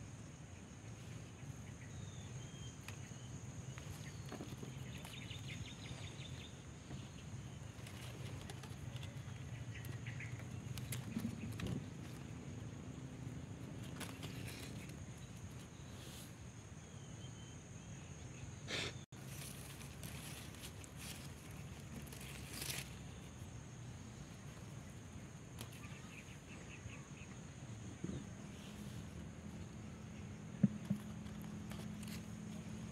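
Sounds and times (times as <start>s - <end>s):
outdoor background noise: 0.0s - 32.9s
leaves and stems rustling: 2.1s - 16.6s, 19.1s - 26.6s, 28.3s - 32.9s.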